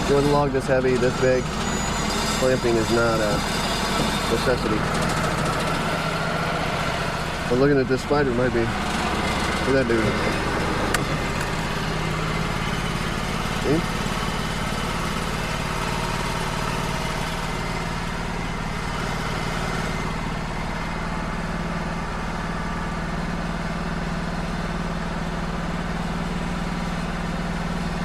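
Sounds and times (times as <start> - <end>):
sawmill engine humming: 0.0 - 28.0.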